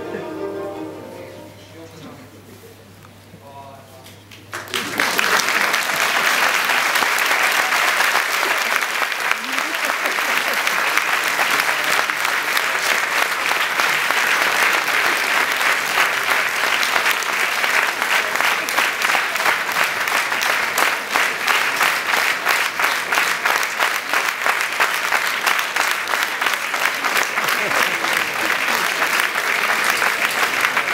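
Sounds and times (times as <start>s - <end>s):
audience clapping: 4.2s - 30.9s.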